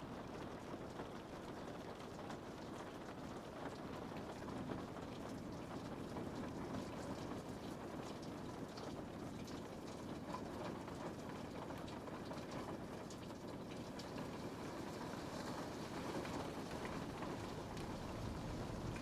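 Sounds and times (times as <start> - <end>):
rain on a window: 0.0 - 19.0.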